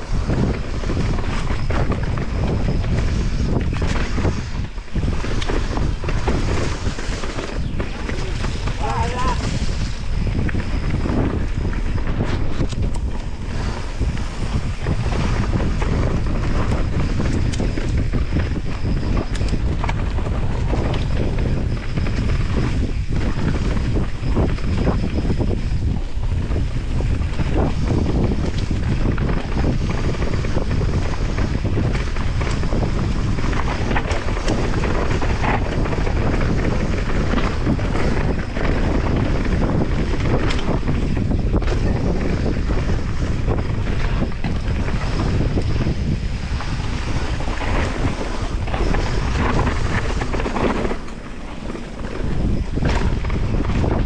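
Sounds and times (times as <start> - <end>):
bike clicks and rattles: 0.0 - 54.0
tyres rolling on dirt trail: 0.0 - 54.0
wind buffeting microphone: 0.0 - 54.0.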